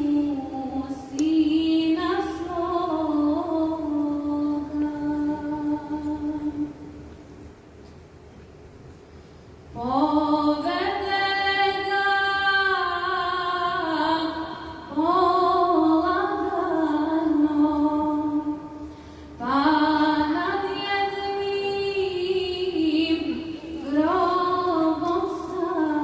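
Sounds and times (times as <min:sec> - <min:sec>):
woman singing devotional song: 0:00.0 - 0:07.0, 0:09.8 - 0:26.0.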